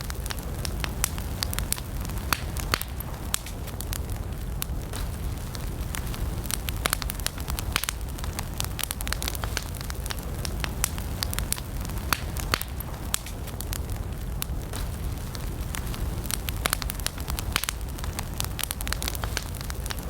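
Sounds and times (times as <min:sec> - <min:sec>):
campfire crackling and popping: 0:00.0 - 0:20.0
low rush of flames: 0:00.0 - 0:20.0.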